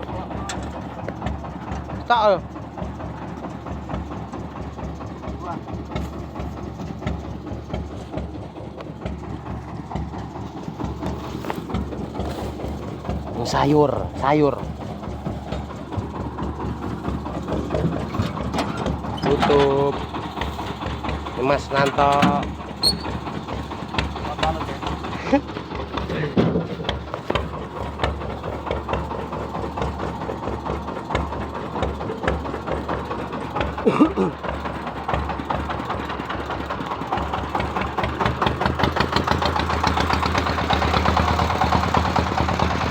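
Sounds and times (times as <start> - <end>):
heavy vehicle engine idling: 0.0 - 42.9.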